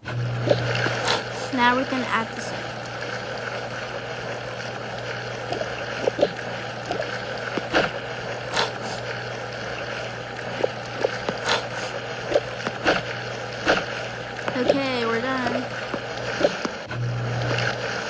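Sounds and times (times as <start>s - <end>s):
bath water washing: 0.0s - 18.0s.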